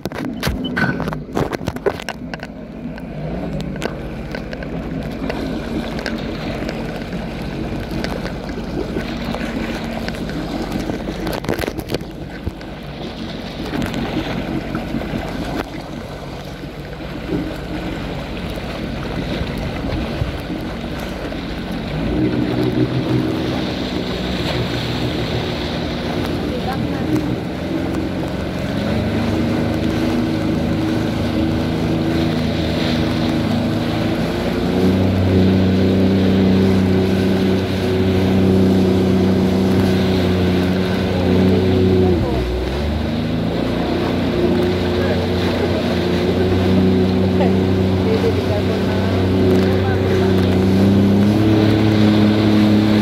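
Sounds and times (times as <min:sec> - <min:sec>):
jet ski engine running: 0:00.0 - 0:53.0
water rushing past hull: 0:00.0 - 0:53.0.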